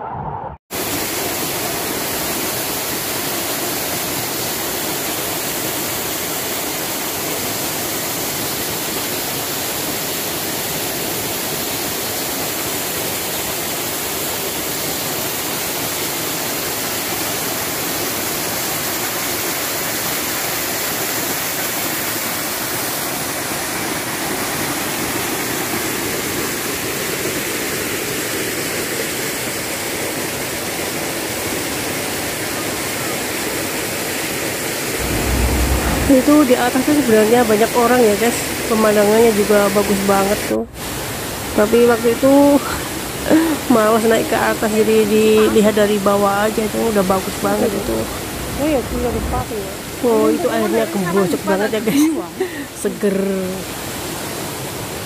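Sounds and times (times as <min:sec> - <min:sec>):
waterfall and stream rushing: 0:00.7 - 0:55.0.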